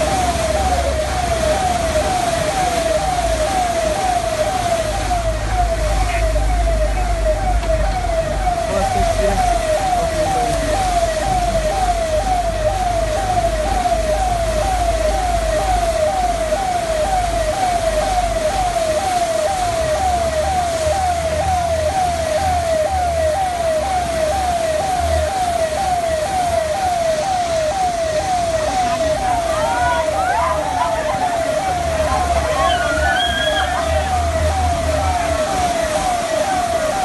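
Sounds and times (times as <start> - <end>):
emergency siren sweeping: 0.0 - 37.0
street noise hiss: 0.0 - 37.0.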